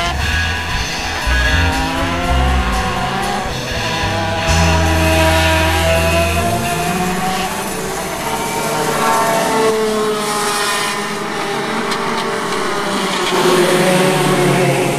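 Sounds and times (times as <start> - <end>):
two-stroke kart engine revving: 0.0 - 14.9.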